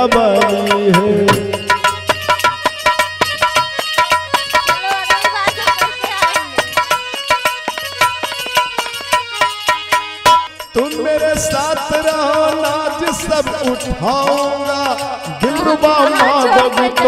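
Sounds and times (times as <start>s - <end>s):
dholak drumming: 0.0s - 17.0s
harmonium melody: 0.0s - 17.0s.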